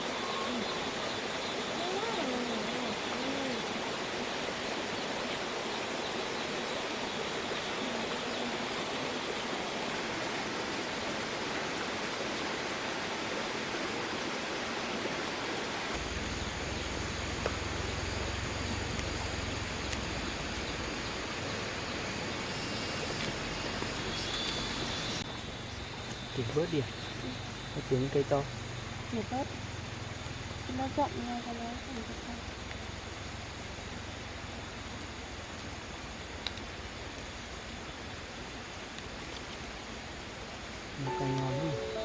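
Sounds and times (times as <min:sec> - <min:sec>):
rushing outdoor background noise: 0:00.0 - 0:42.0.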